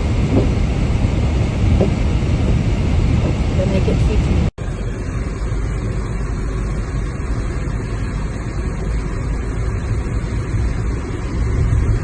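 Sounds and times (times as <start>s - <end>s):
car engine and tyre rumble in snow: 0.0s - 12.0s.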